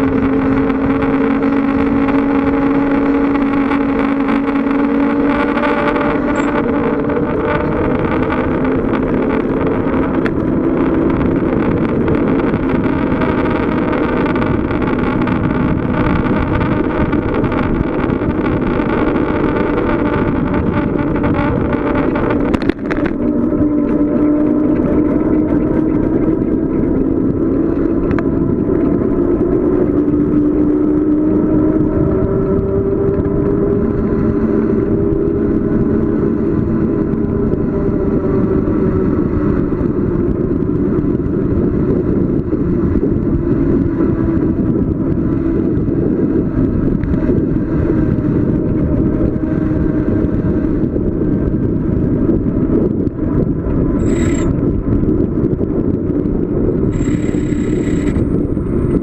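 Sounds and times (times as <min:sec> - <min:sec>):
steady hum rising in pitch: 0:00.0 - 0:51.3, 0:52.5 - 0:59.0
bicycle road noise: 0:00.0 - 0:59.0
wind rushing over microphone: 0:00.0 - 0:59.0.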